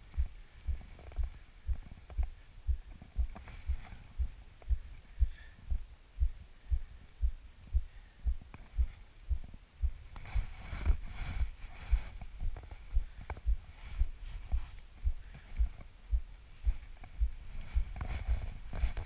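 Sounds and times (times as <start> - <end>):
low thumping: 0.0 - 19.0.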